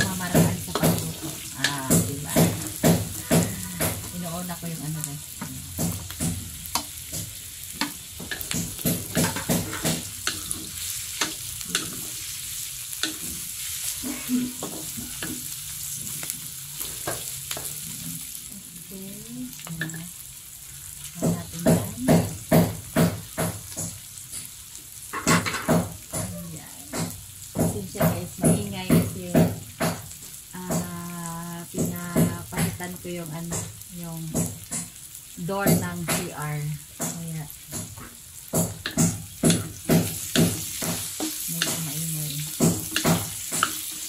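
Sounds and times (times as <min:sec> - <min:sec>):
onions sizzling in hot oil: 0:00.0 - 0:44.0.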